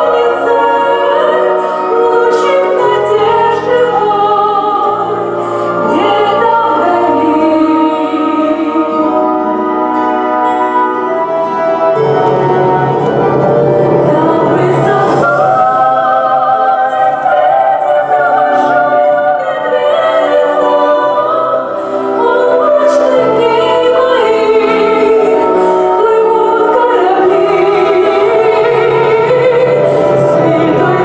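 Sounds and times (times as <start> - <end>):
chorus singing: 0.0 - 31.0
instrumental accompaniment: 0.0 - 31.0.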